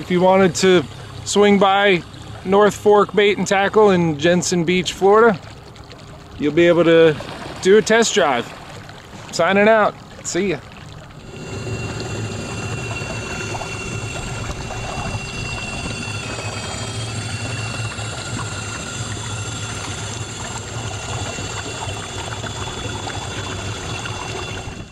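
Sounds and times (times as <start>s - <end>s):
electric outboard motor whine: 0.0s - 24.9s
water rushing past hull: 0.0s - 24.9s.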